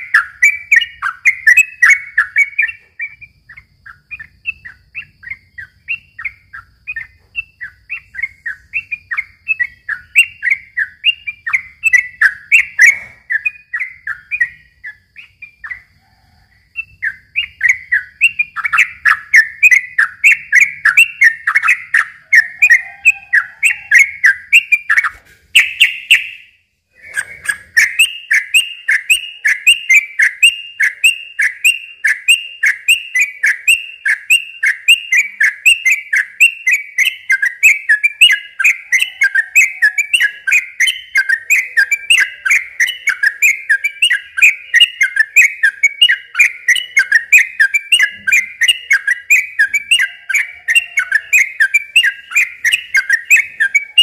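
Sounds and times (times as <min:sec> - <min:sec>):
bird chirping rapidly: 0:00.0 - 0:54.0.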